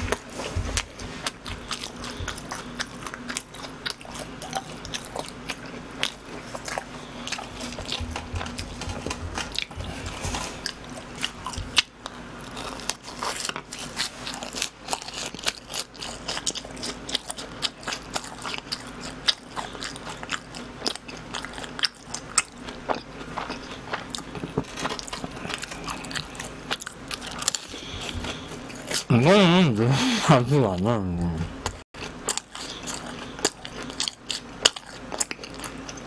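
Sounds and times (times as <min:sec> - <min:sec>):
crunchy chewing: 0:00.0 - 0:29.1, 0:31.6 - 0:36.0.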